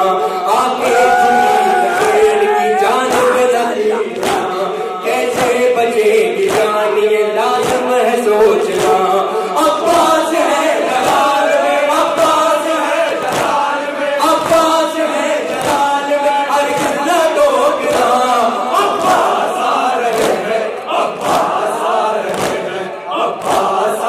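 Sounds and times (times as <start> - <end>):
lead reciters singing: 0.0 - 24.0
men chanting a lament: 0.0 - 24.0
rhythmic chest-beating slaps: 0.8 - 24.0.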